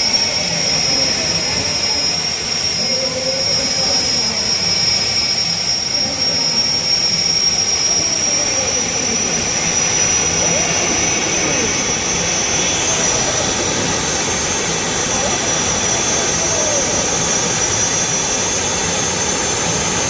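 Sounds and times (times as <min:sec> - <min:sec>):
high turbine whine: 0:00.0 - 0:20.0
turbine engines roaring: 0:00.0 - 0:20.0.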